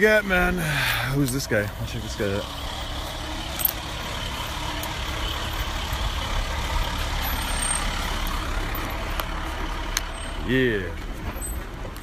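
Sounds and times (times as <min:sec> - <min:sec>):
road noise: 0:00.0 - 0:12.0
diesel fire engine driving past: 0:00.2 - 0:12.0.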